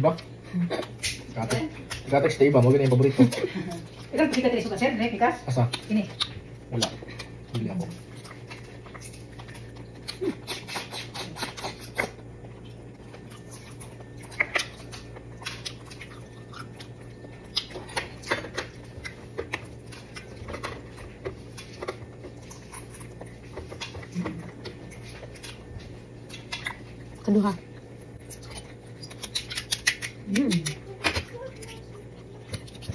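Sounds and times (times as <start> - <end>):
steady low hum: 0.0 - 32.9
chewing: 5.6 - 32.9.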